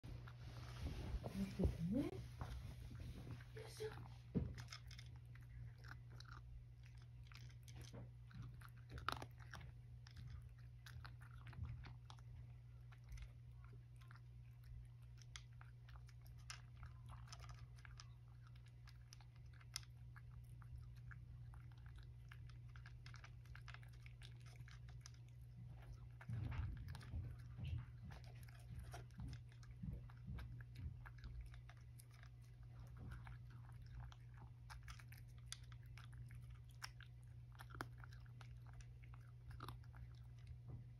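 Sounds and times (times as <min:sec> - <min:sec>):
cat crunching dry kibble: 0:02.3 - 0:40.9.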